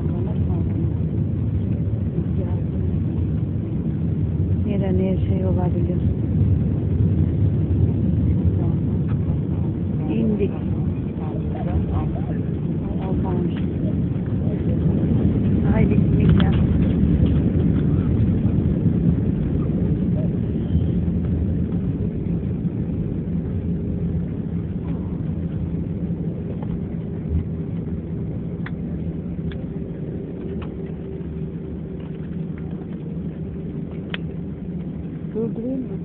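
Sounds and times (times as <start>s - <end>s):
airliner engine and airflow rumble: 0.0s - 36.0s.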